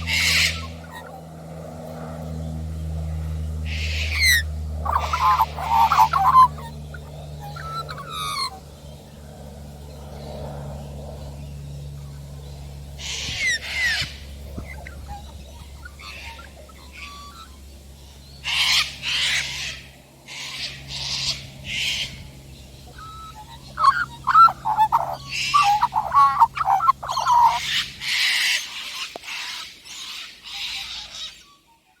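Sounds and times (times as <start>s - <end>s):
steady low hum: 0.0s - 31.6s
harsh bird calls: 0.0s - 32.0s.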